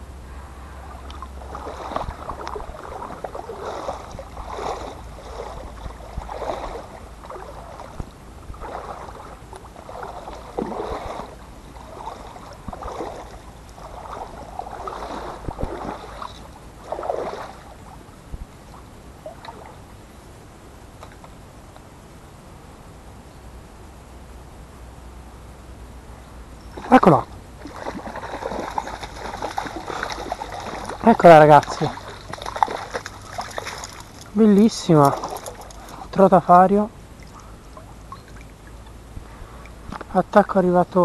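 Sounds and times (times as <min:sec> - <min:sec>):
low steady rumble: 0:00.0 - 0:41.0
water sloshing and splashing: 0:00.8 - 0:20.0, 0:26.7 - 0:40.6.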